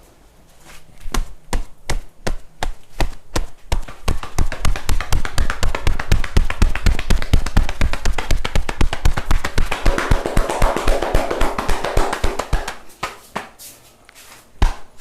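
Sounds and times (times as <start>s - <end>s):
hands slapping in massage: 1.0s - 13.6s, 14.6s - 15.0s.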